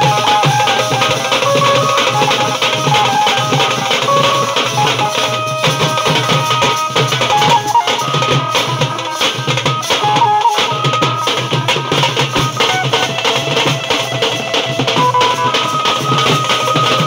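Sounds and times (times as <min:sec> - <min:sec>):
drums beaten in driving rhythm: 0:00.0 - 0:17.0
melody instrument holding notes: 0:00.0 - 0:17.0.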